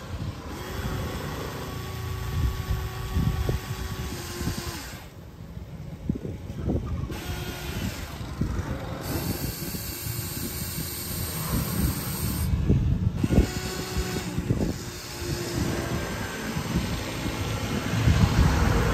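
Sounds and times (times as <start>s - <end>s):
motor whine: 0.0s - 18.9s.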